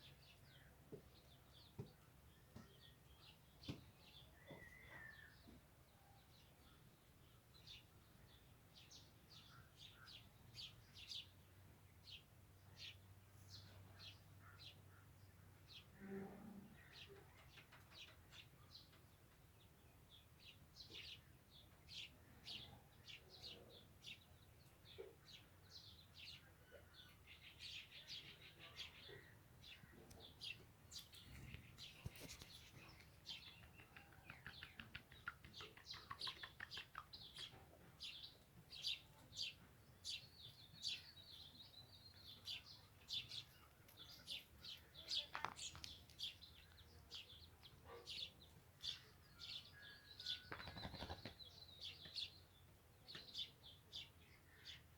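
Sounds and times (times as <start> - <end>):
small birds chirping: 0.0 - 16.1, 16.7 - 54.9.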